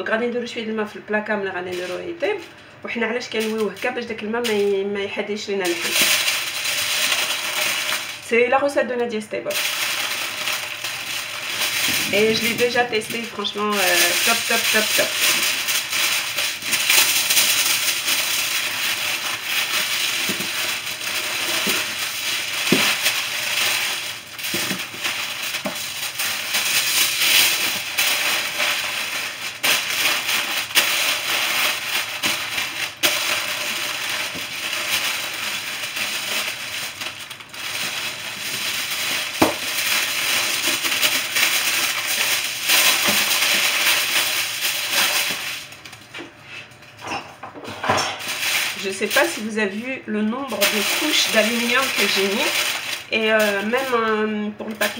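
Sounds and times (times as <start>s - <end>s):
aluminium foil crinkling: 0.4s - 54.9s.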